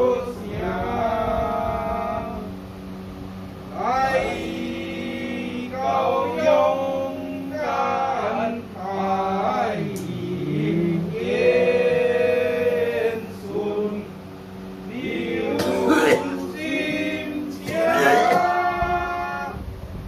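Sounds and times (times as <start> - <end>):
men chanting together: 0.0 - 2.5, 3.7 - 14.2, 14.8 - 19.6.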